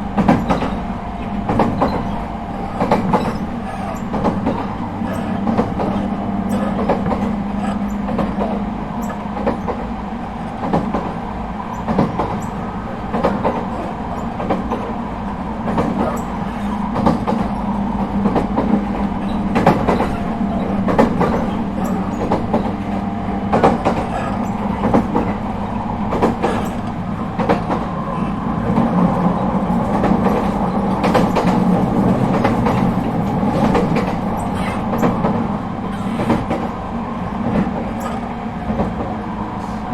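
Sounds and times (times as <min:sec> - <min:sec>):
traction equipment hum: 0:00.0 - 0:39.9
train rumble: 0:00.0 - 0:39.9
wheels clicking over rail joints: 0:00.0 - 0:39.9.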